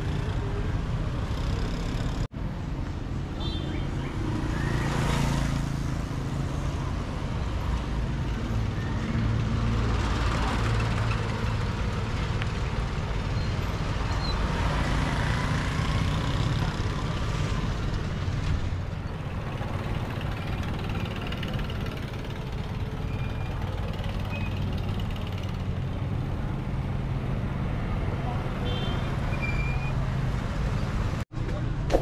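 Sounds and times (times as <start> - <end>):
passing vehicle engines: 0.0 - 31.9.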